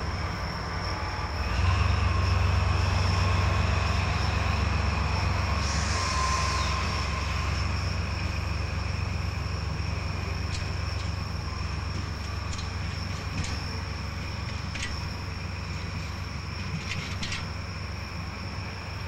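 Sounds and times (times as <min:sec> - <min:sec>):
diesel locomotive engine drone: 0:00.0 - 0:19.0
faint steady whine: 0:00.0 - 0:19.0.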